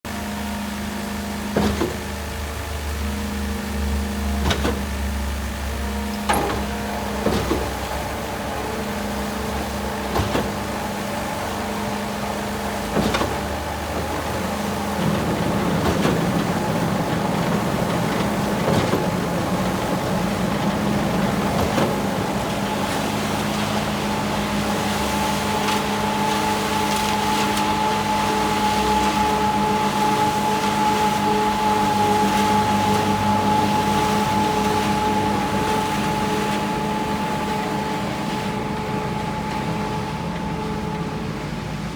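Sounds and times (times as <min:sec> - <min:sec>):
concrete pump engine hum: 0:00.1 - 0:41.9
pump clunking: 0:00.1 - 0:41.9.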